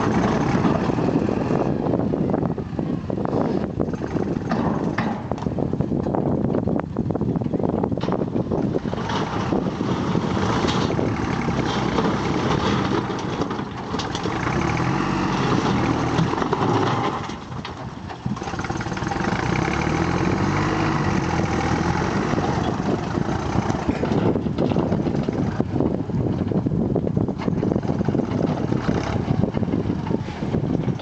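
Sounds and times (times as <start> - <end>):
diesel engine revving: 0.0 - 5.8, 8.2 - 31.0.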